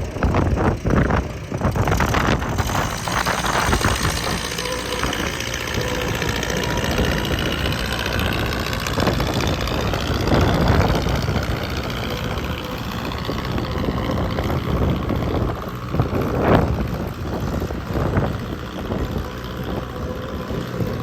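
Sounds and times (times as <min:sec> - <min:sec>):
skid steer engine idling: 0:00.0 - 0:21.0.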